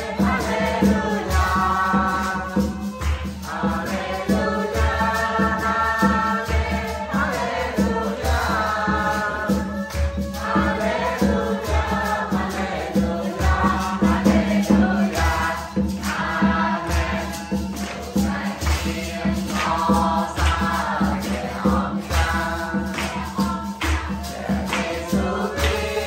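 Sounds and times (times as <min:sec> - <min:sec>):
group singing worship song: 0:00.0 - 0:26.0
hand drum beat: 0:00.0 - 0:26.0
tambourine jingling: 0:00.0 - 0:26.0.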